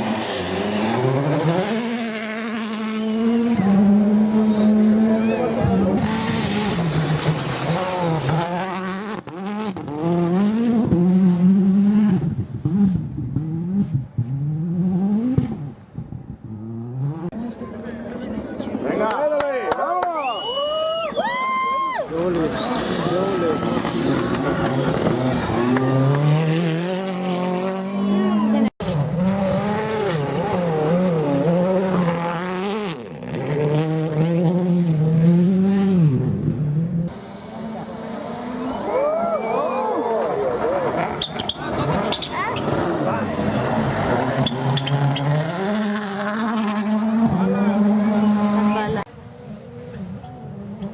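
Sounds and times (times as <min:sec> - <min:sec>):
rally car engine revving: 0:00.0 - 0:18.8, 0:22.1 - 0:50.9.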